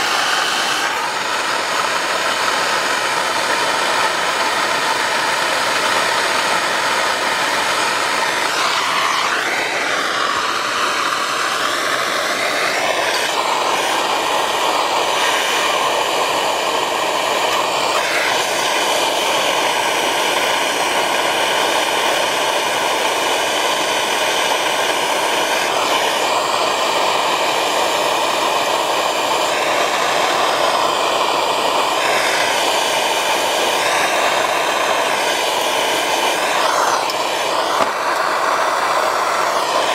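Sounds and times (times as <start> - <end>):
propane torch hissing: 0.0 - 39.9.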